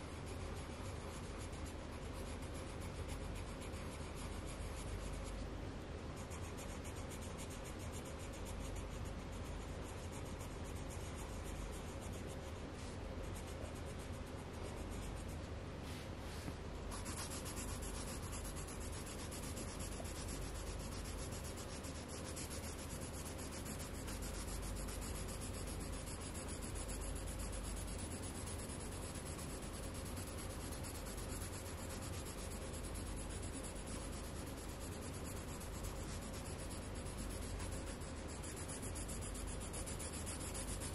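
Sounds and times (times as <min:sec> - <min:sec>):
coloured pencil scratching on paper: 0:00.0 - 0:40.9.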